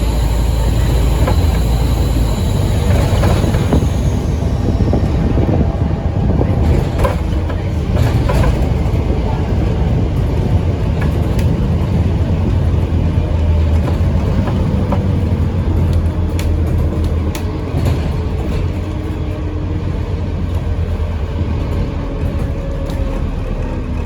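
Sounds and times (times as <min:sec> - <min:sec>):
bus diesel engine rumbling: 0:00.0 - 0:24.0.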